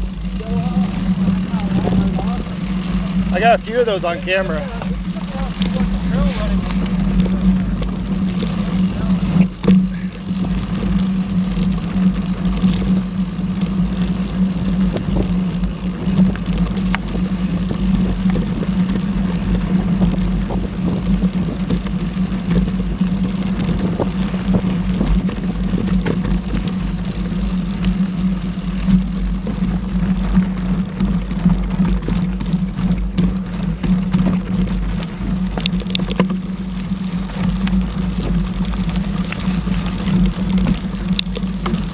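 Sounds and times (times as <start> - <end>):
bike rattling over rough trail: 0.0 - 41.9
wind rushing over microphone: 0.0 - 41.9.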